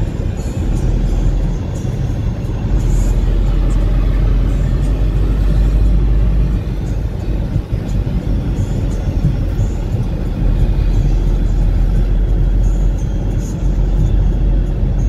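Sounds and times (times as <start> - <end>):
car engine and tyres rumble: 0.0 - 15.0.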